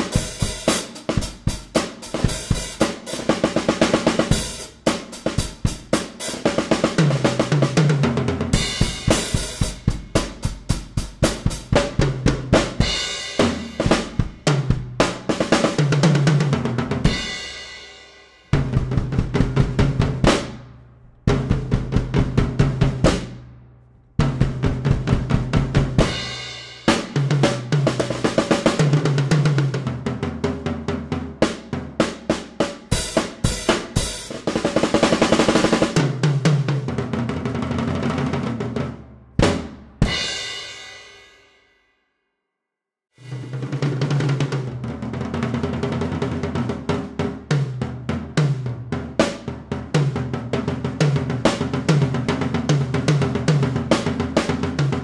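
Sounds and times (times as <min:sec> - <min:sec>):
snare and bass drum groove: 0:00.0 - 0:20.7, 0:21.3 - 0:23.5, 0:24.2 - 0:40.7, 0:43.2 - 0:55.0.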